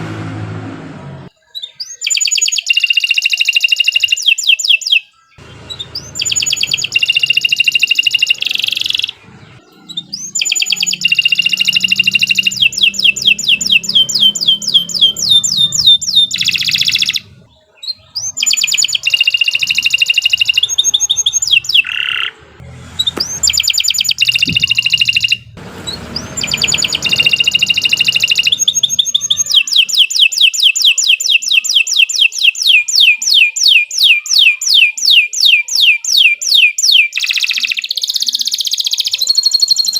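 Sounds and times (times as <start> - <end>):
canary singing trills: 1.2 - 39.9.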